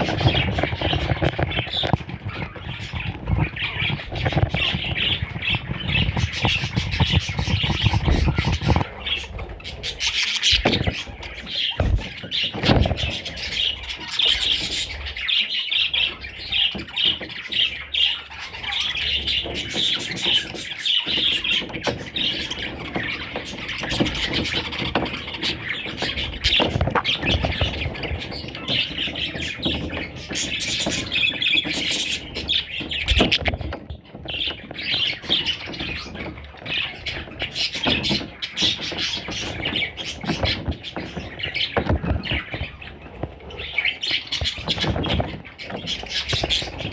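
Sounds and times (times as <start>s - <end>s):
budgerigars chattering and squawking: 0.0s - 46.9s.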